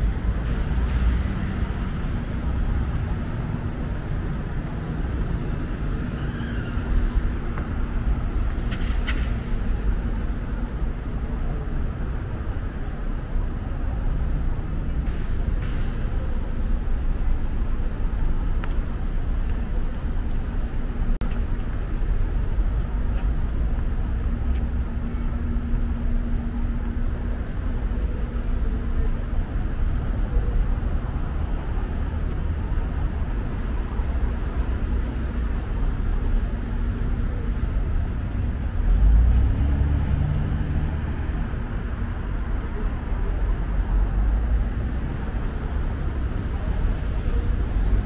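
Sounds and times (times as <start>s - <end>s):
rumble of road traffic: 0.0s - 48.0s.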